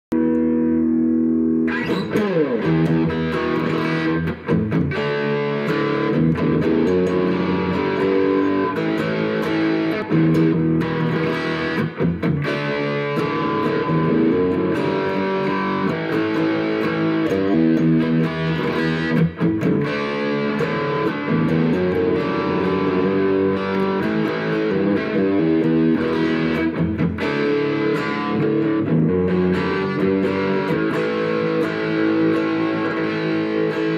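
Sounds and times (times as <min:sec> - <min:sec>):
amplified electric guitar: 0:00.1 - 0:33.9.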